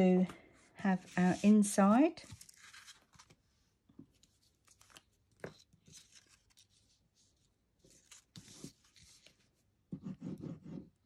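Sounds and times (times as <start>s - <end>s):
muffled paper handling noise: 0.2s - 9.6s.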